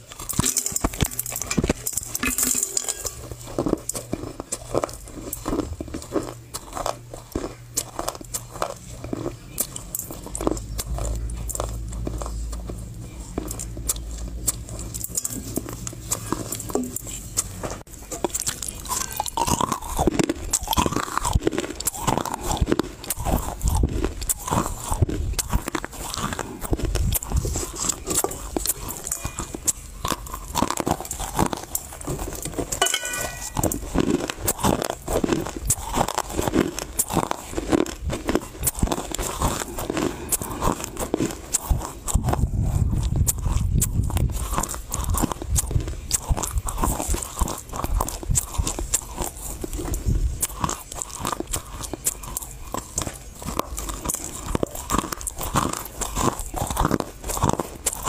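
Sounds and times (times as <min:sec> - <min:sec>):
crunchy chewing of clay: 0:00.0 - 0:58.0.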